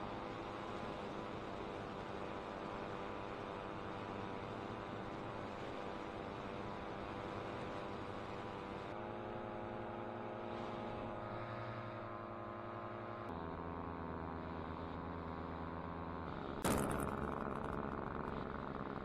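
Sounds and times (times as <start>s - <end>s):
paramotor engine running: 0.0s - 19.0s.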